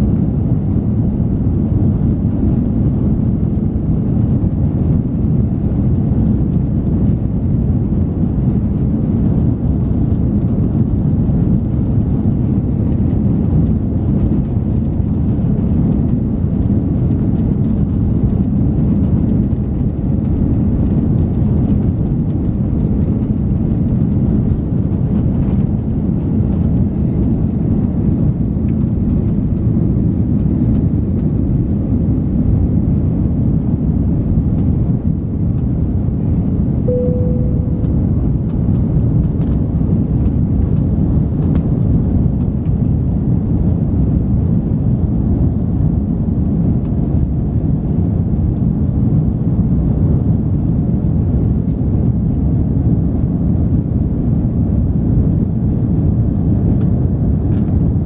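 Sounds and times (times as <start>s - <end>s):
jet engines at high thrust: 0.0s - 58.0s
rumble of takeoff roll: 0.0s - 58.0s.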